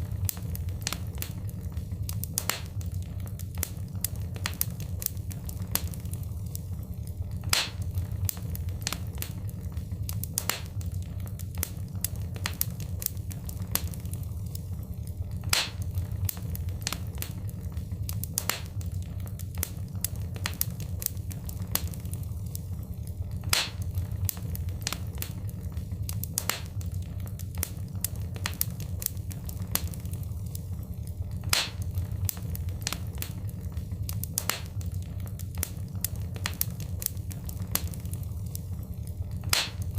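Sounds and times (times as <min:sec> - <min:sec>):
low rumble of flame: 0:00.0 - 0:39.9
sharp pops and snaps: 0:00.0 - 0:39.9
wood fire crackling: 0:00.0 - 0:39.9.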